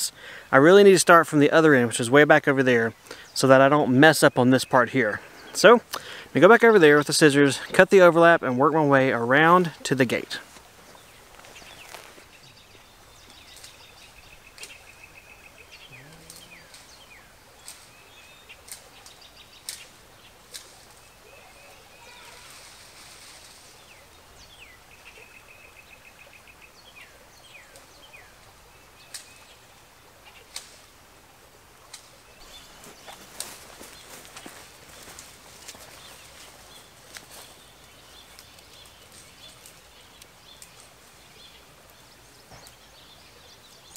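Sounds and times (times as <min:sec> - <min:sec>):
background hiss: 0:00.0 - 0:43.9
songbirds trilling and chirping: 0:00.0 - 0:43.9.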